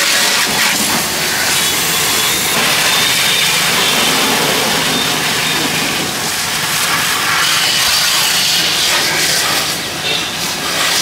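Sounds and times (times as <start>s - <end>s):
pressure washer spraying: 0.0s - 11.0s.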